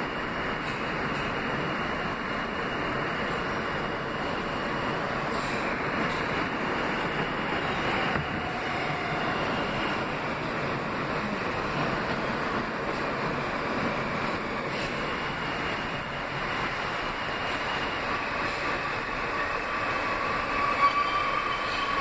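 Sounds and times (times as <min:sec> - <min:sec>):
subway wheel and motor noise: 0:00.0 - 0:22.0.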